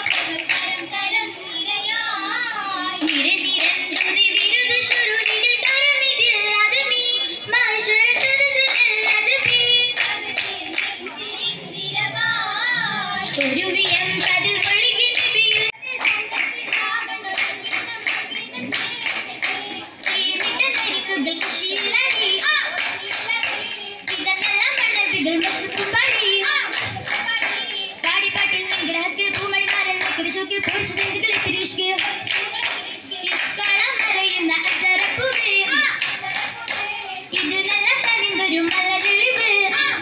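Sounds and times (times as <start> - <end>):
rhythmic hand clapping: 0.0 - 1.2, 1.8 - 6.8, 7.6 - 11.4, 13.1 - 40.0
voices singing: 0.0 - 40.0.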